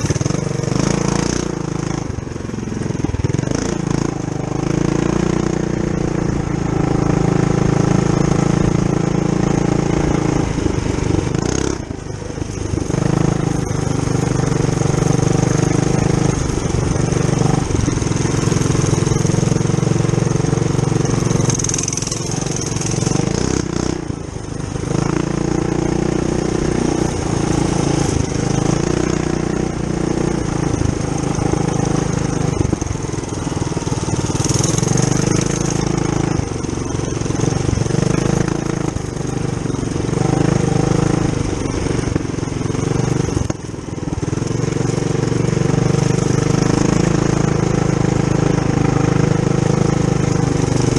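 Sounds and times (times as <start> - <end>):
mini bike engine revving: 0.0 - 50.9.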